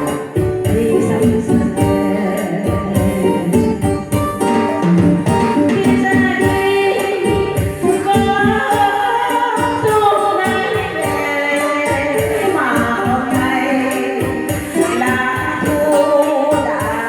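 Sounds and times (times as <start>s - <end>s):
instrumental music with percussive beat: 0.0s - 17.0s
woman singing: 0.0s - 17.0s.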